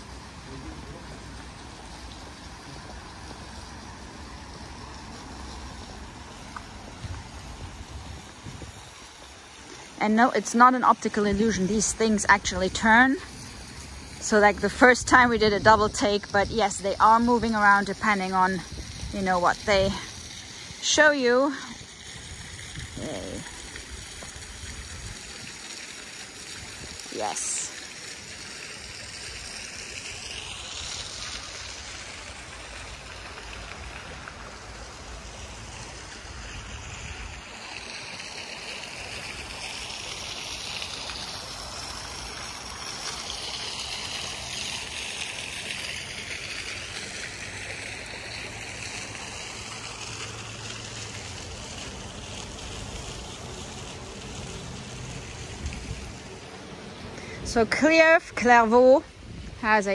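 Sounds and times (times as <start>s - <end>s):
fountain splashing into basin: 0.0s - 59.9s.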